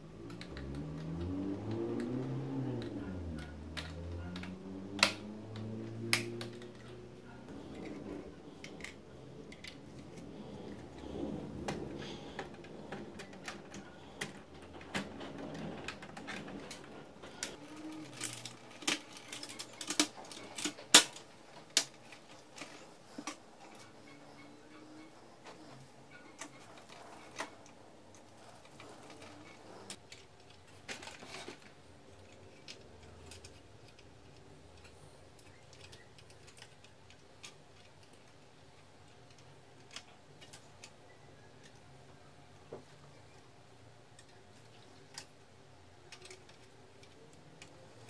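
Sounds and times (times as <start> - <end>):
plastic printer parts clicking: 0.2 - 25.1, 26.1 - 48.0.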